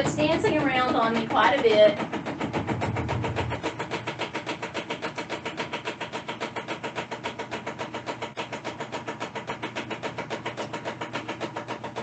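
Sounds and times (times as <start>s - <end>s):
washing machine knocking and rattling: 0.0s - 12.0s
washing machine motor humming: 0.0s - 12.0s.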